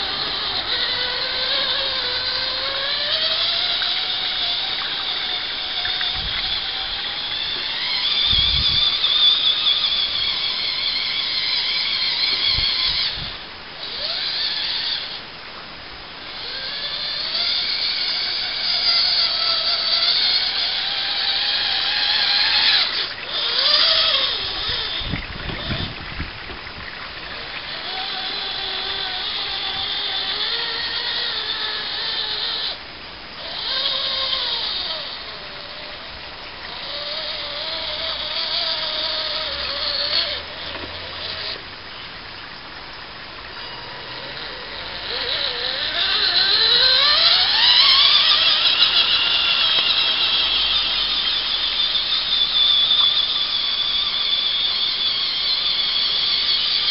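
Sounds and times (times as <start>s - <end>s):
toy truck motors whining: 0.0s - 56.9s.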